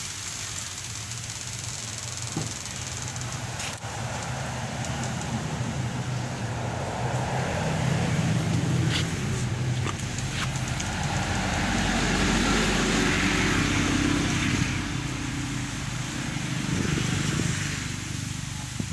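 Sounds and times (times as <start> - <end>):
vehicle engine hum: 0.0 - 18.9.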